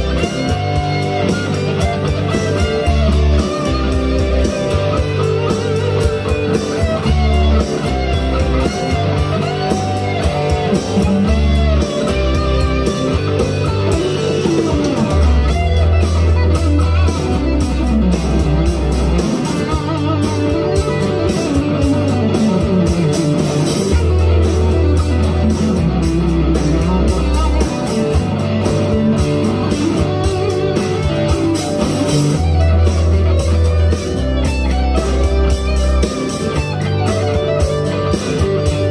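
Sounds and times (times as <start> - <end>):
backing track with bass: 0.0 - 38.9
electric guitar lead with bends: 0.0 - 38.9.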